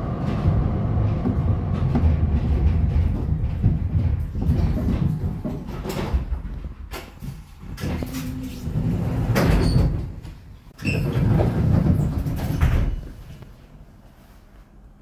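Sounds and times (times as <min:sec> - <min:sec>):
tram rumbling and clattering: 0:00.0 - 0:14.1.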